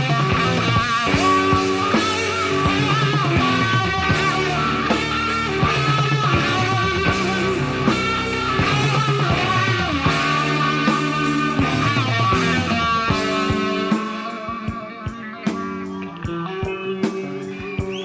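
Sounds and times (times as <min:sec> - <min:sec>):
bass guitar: 0:00.0 - 0:18.0
drums: 0:00.0 - 0:18.0
lead electric guitar: 0:00.0 - 0:18.0.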